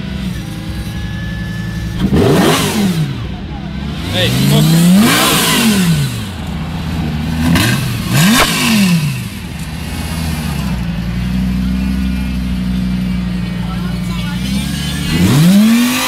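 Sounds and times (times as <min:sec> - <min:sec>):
car engine revving from idle: 0:01.7 - 0:16.0.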